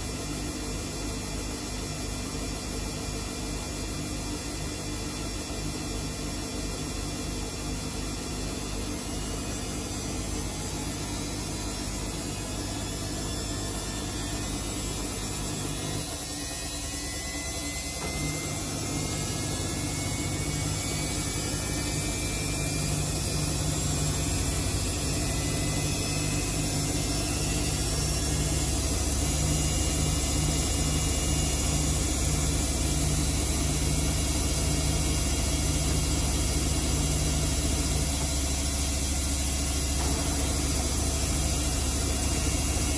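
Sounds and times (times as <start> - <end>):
washing machine drum spinning: 0.0 - 42.9
motor whine rising in pitch: 1.8 - 42.9.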